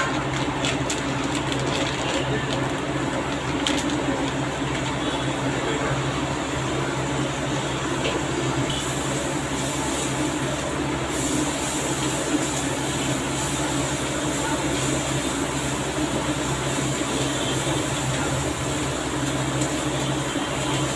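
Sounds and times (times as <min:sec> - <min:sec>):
induction cooktop hum: 0:00.0 - 0:20.9
water simmering in a pan: 0:00.6 - 0:20.9.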